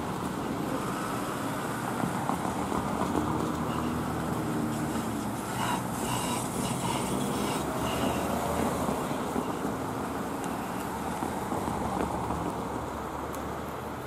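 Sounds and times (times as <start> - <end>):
diesel train engine: 0.0 - 11.8
road traffic: 0.0 - 14.0.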